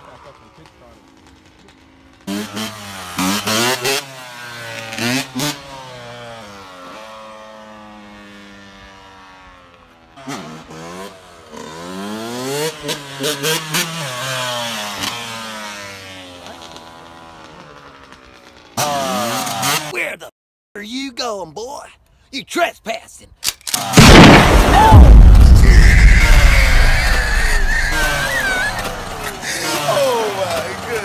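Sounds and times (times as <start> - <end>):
dirt bike engine revving: 1.0 - 19.9, 24.0 - 31.0.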